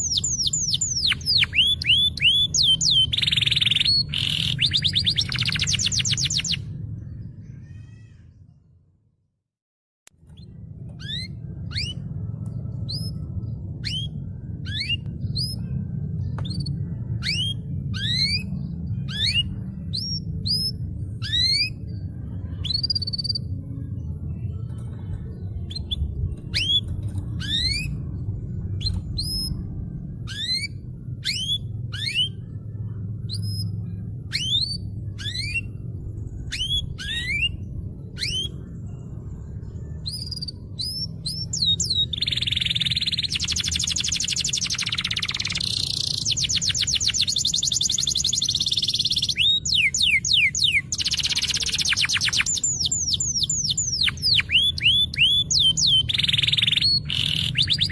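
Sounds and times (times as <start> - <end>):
canary singing: 0.0 - 8.1, 10.2 - 57.9
steady low hum: 0.0 - 9.3, 10.1 - 57.9.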